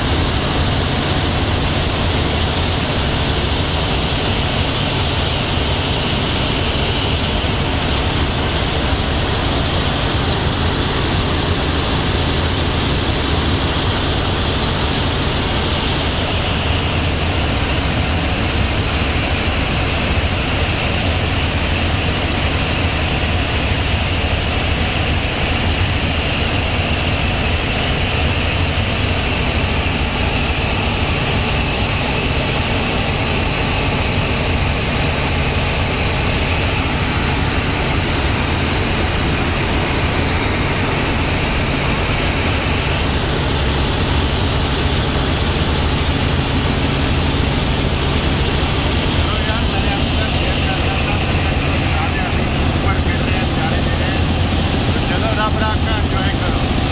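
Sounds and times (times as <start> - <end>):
helicopter engine and rotor drone: 0.0 - 56.9
high whine: 0.0 - 56.9.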